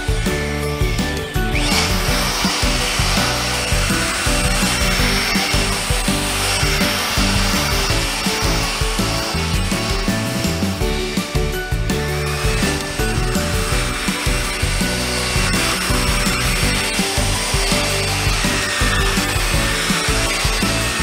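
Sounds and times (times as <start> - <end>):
electric polisher running: 0.0 - 21.0.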